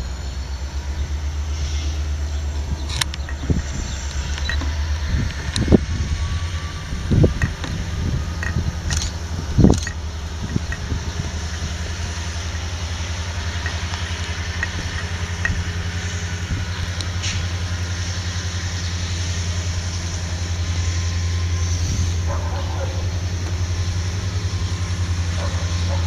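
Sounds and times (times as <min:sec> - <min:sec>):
distant diesel locomotive engine: 0:00.0 - 0:26.0.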